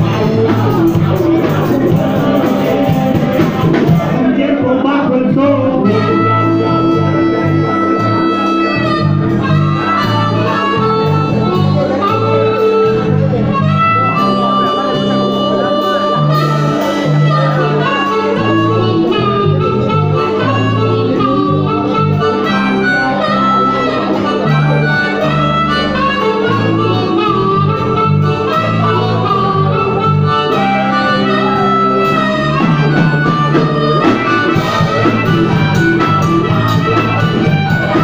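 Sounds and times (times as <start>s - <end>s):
bass line: 0.0s - 38.0s
drums: 0.0s - 38.0s
electric guitar: 0.0s - 38.0s
harmonica: 0.0s - 38.0s.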